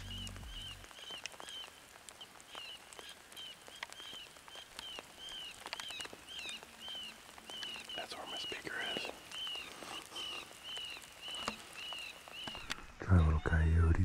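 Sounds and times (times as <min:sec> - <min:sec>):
raindrops ticking: 0:00.0 - 0:14.0.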